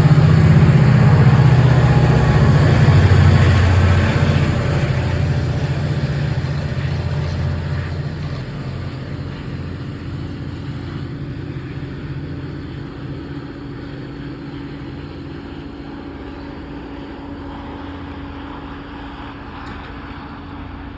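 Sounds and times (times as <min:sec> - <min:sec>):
diesel train rumbling: 0:00.0 - 0:20.9
steady hum: 0:00.0 - 0:20.9.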